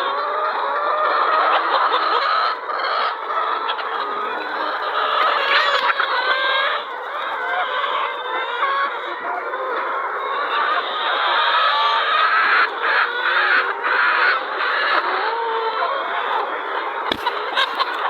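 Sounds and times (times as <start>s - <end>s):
flock of poultry calling: 0.0s - 18.0s.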